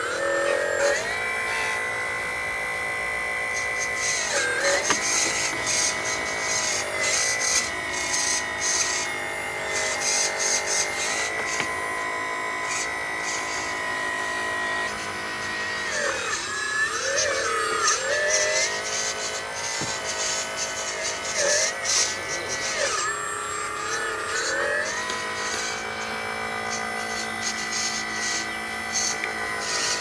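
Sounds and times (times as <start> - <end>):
rc truck motor whining: 0.0 - 30.0.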